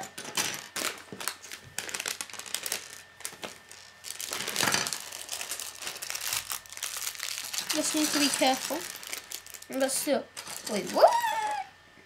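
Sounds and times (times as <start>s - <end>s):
plastic bag crinkling: 0.5s - 11.5s.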